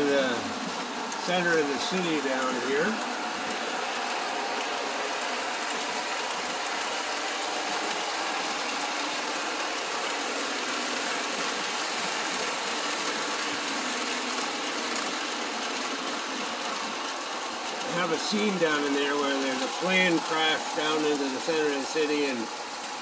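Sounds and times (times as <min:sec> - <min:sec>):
model train motors whirring: 0:00.0 - 0:23.0
wheels rolling on rails: 0:00.0 - 0:23.0.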